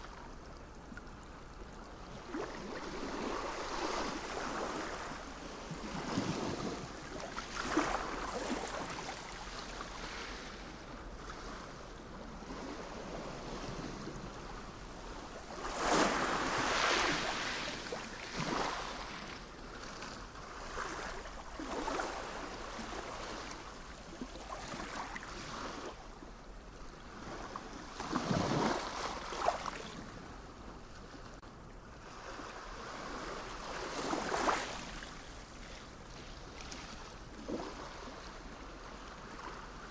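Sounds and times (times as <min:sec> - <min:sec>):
sea waves washing ashore: 0:01.8 - 0:31.4, 0:32.0 - 0:39.9.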